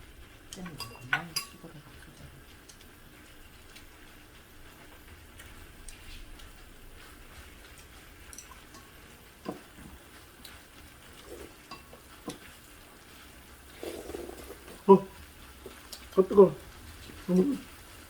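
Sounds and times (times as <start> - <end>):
faint sizzling on a griddle: 0.0 - 18.0.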